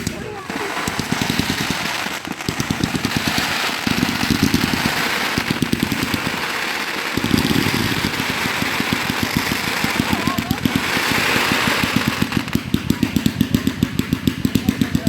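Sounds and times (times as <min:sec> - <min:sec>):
firecrackers popping: 0:00.0 - 0:15.0.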